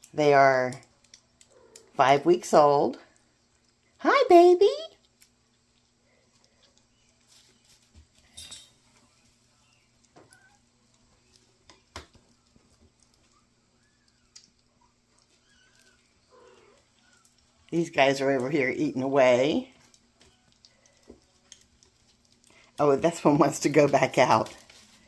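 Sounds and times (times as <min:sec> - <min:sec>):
kittens eating clicks and taps: 0:00.0 - 0:04.0, 0:04.9 - 0:25.0.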